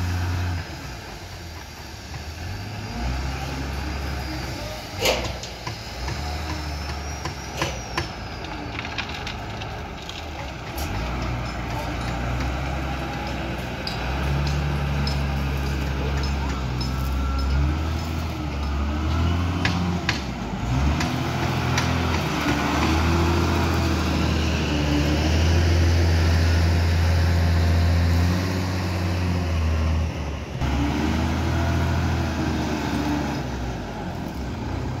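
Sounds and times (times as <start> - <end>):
diesel engine revving: 0.0 - 35.0.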